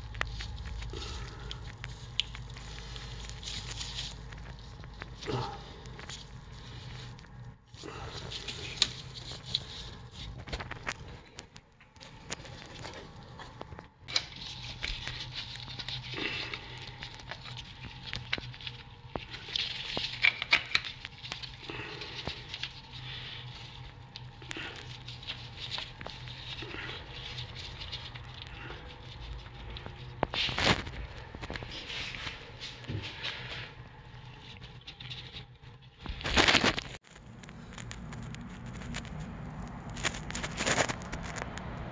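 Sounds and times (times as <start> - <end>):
gloved hands clicking and rustling: 0.0 - 41.9
steady low hum: 0.0 - 41.9.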